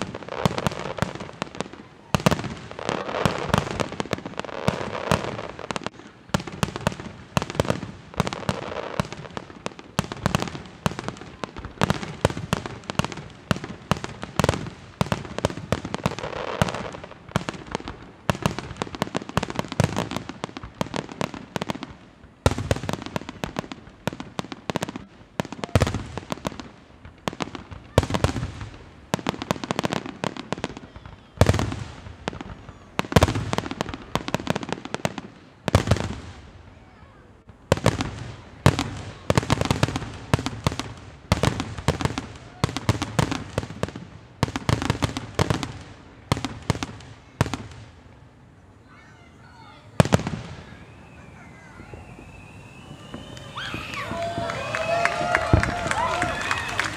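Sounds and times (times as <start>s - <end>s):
fireworks booming and crackling: 0.0s - 48.4s, 49.0s - 56.9s.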